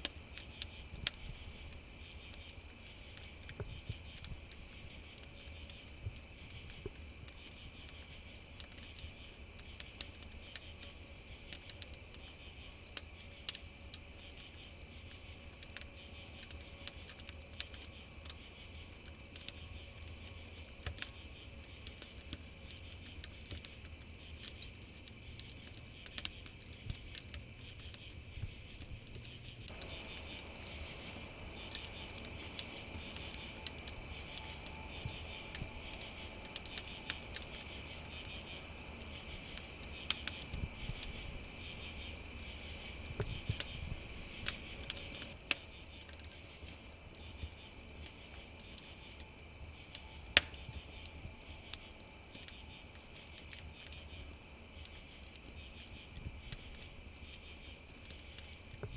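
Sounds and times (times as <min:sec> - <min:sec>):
campfire crackling and popping: 0:00.0 - 0:58.9
crickets chirring: 0:00.0 - 0:58.9.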